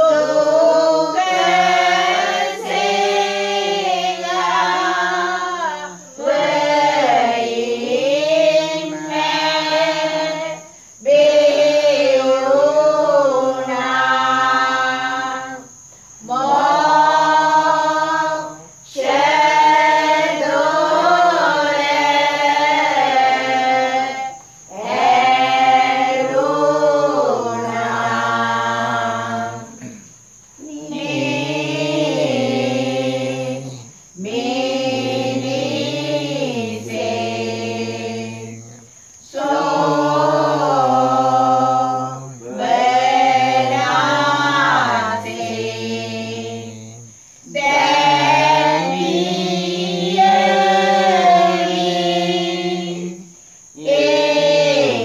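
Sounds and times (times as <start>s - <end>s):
group singing a hymn unaccompanied: 0.0s - 55.0s.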